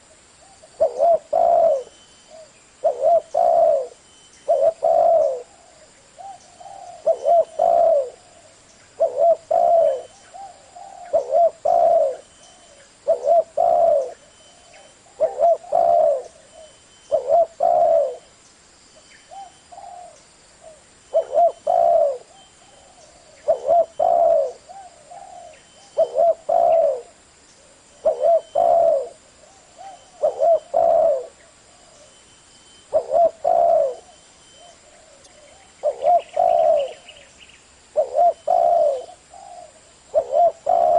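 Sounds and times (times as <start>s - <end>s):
dove cooing: 0.0s - 18.3s, 19.3s - 32.2s, 32.8s - 37.3s, 37.9s - 40.9s.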